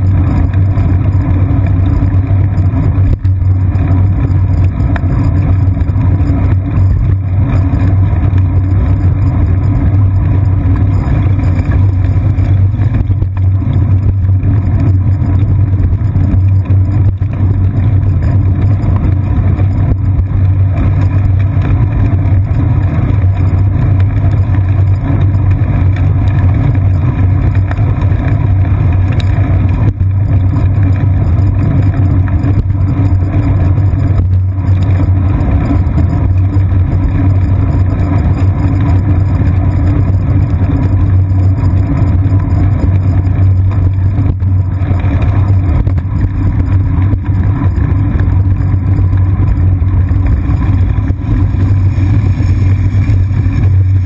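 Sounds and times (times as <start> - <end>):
bicycle road vibration rumble: 0.0 - 54.0
wind noise: 0.0 - 54.0.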